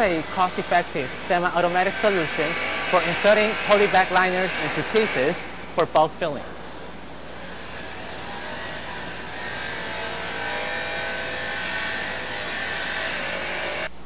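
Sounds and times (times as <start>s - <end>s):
case sealing machine motor whirr: 1.8s - 13.9s.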